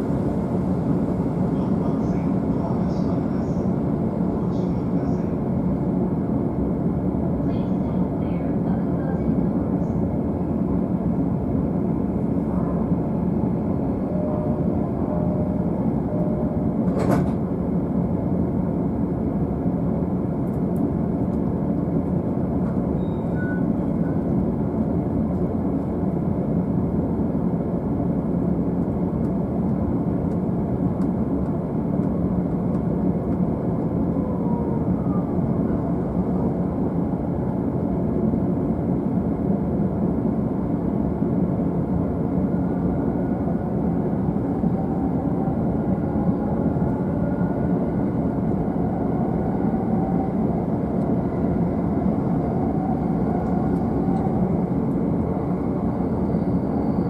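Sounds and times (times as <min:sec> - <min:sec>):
train interior rumble: 0:00.0 - 0:57.0.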